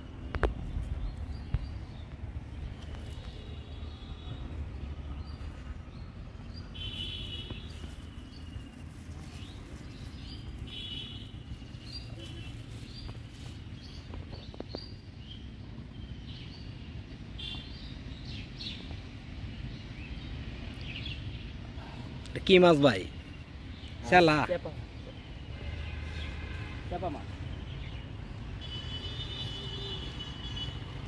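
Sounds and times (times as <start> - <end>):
small birds chirping: 0.2 - 26.3.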